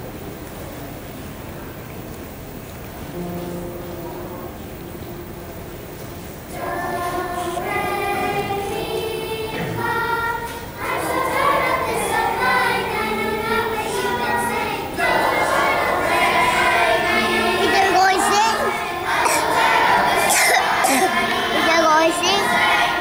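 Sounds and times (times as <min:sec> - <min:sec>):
children's choir singing: 0:03.2 - 0:23.0.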